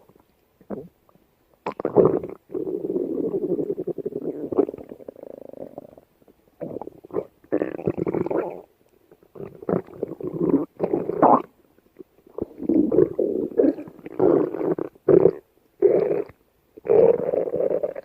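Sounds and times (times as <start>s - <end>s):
stomach growling and gurgling: 1.6s - 18.0s.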